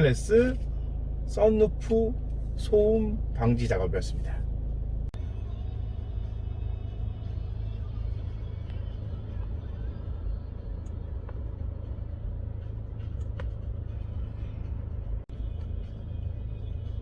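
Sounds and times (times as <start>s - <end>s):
road rumble inside car cabin: 0.0s - 17.0s.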